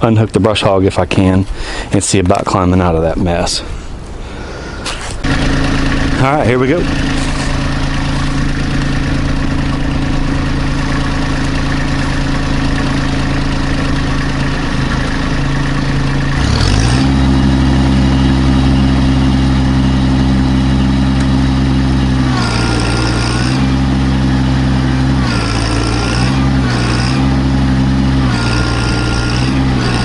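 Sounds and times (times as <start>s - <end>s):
high whine: 4.8s - 30.0s
tractor diesel engine revving: 5.0s - 30.0s.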